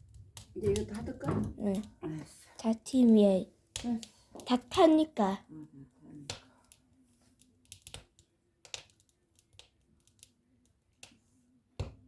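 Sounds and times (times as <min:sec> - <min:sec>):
fire popping: 0:00.0 - 0:12.0
wood fire crackling: 0:00.0 - 0:12.0.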